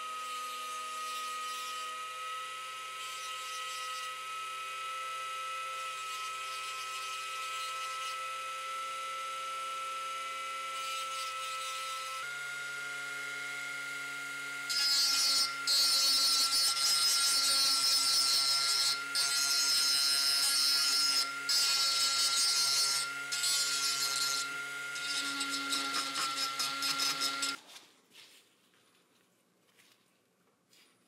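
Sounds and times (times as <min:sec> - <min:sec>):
power tool whining: 0:00.0 - 0:27.6.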